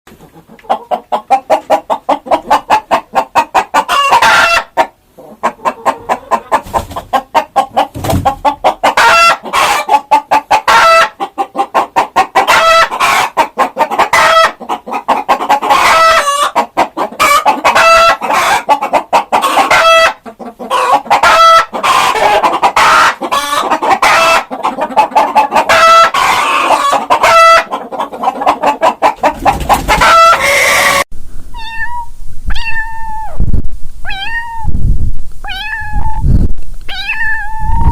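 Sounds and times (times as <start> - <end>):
chickens clucking: 0.1 - 31.8, 35.5 - 37.9.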